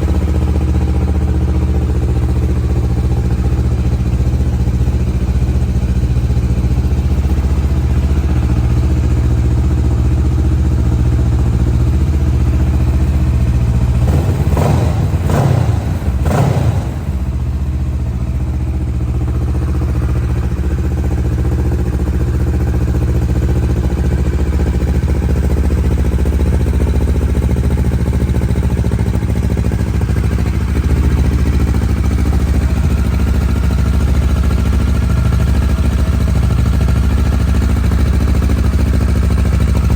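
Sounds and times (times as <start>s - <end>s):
motorcycle engine idling and blipped: 0.0s - 39.9s.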